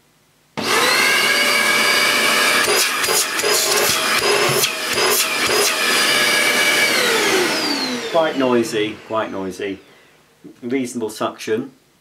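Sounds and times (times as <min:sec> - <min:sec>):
vacuum cleaner running with high whine: 0:00.6 - 0:10.2.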